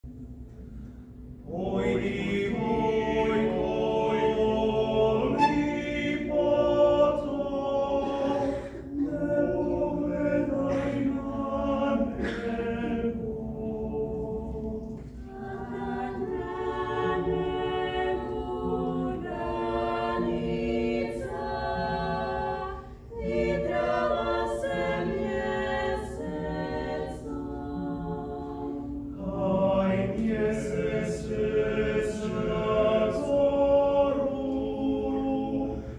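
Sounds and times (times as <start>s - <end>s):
choir singing a cappella: 0.1s - 35.9s.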